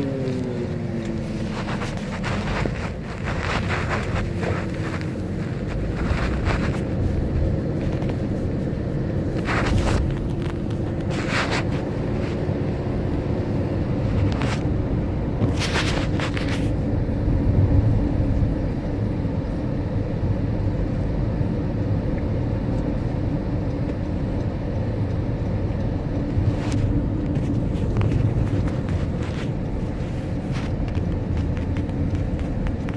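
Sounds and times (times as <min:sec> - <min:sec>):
car engine and tyre rumble: 0:00.0 - 0:32.9.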